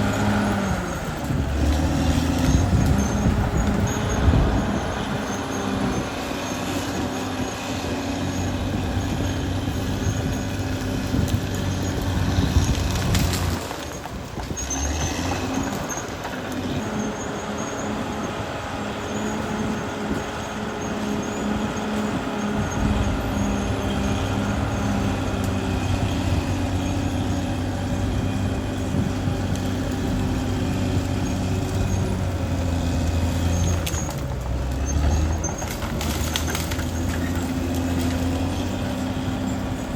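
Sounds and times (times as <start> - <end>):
bulldozer diesel engine running: 0.0 - 39.9
mechanical noise: 0.0 - 39.9.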